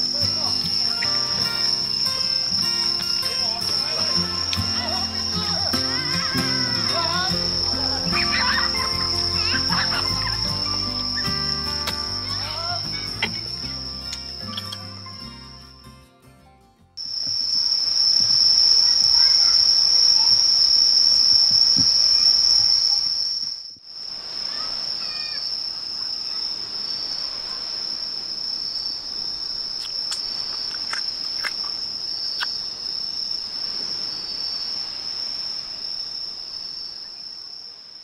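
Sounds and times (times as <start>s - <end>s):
insects trilling: 0.0s - 15.7s, 17.0s - 38.0s.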